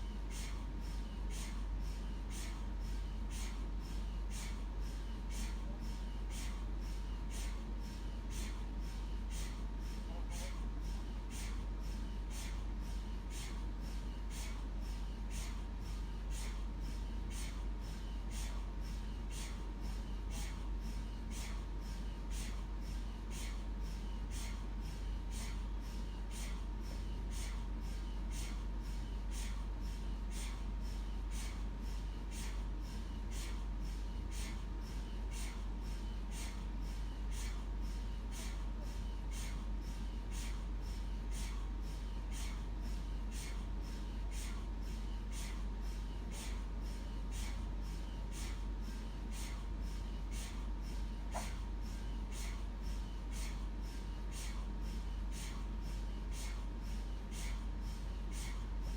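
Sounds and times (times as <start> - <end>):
scanner knocking rhythmically: 0.0 - 58.9.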